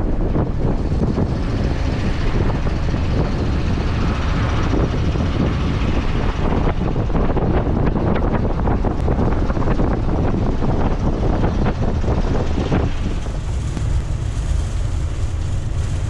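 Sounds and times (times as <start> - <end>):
motorhome engine rumble: 0.0 - 16.0
wind buffeting vehicle: 0.0 - 16.0.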